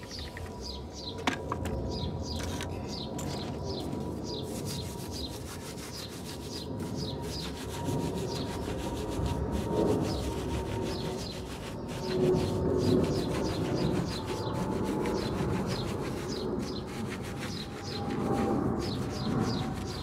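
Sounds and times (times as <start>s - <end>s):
bird chirping: 0.0s - 9.0s, 10.0s - 20.0s
brush scrubbing wet wheel: 3.6s - 20.0s.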